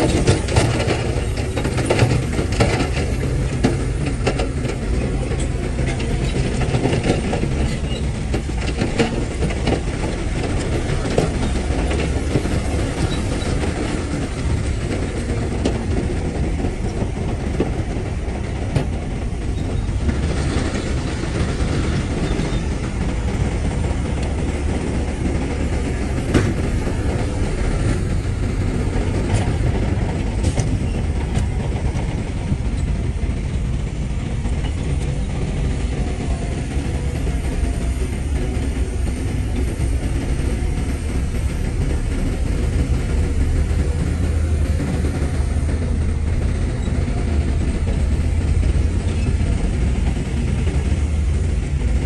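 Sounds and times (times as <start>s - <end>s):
diesel engine drone: 0.0s - 52.0s.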